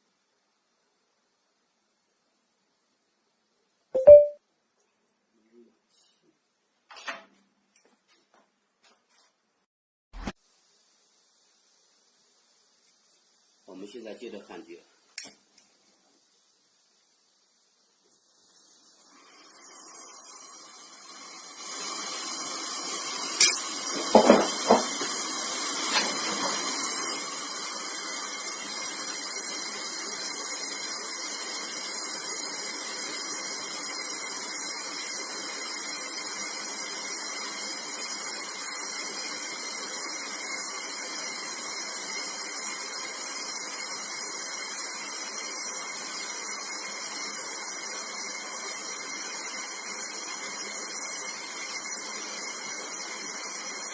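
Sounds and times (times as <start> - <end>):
torch flame hissing: 10.2 - 53.9.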